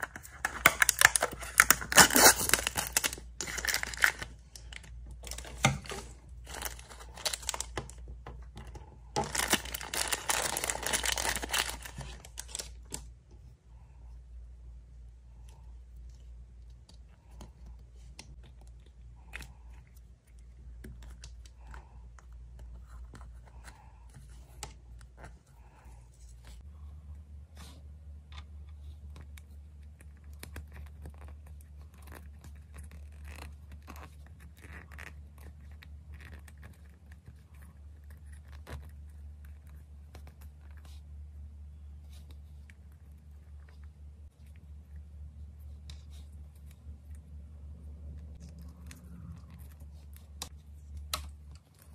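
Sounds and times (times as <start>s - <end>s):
steady low hum: 0.0s - 34.5s, 35.2s - 51.9s.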